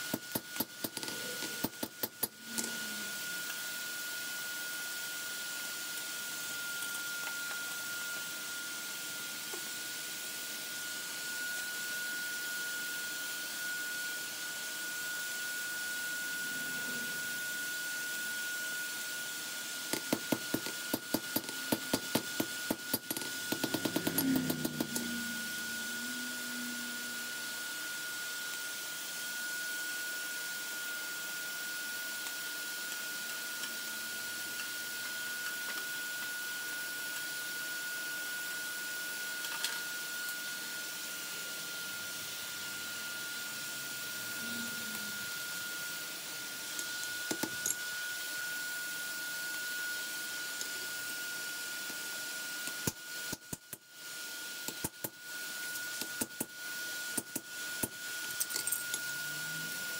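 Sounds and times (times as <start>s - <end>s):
forge blower whining hiss: 0.0s - 59.9s.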